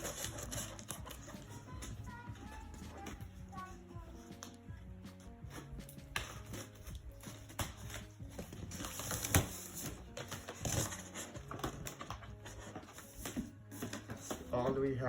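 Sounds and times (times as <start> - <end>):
cardboard rustling and scraping: 0.0 - 3.8, 6.3 - 15.0.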